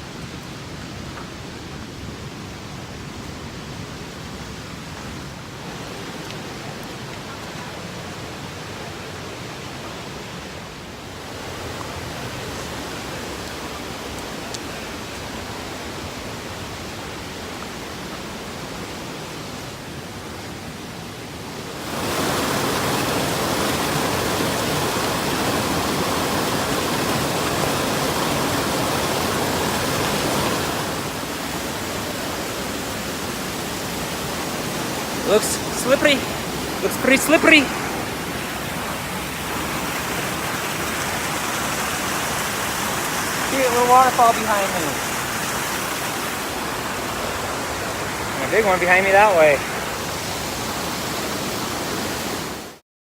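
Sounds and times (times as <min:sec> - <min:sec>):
waterfall and creek rushing: 0:00.0 - 0:52.8.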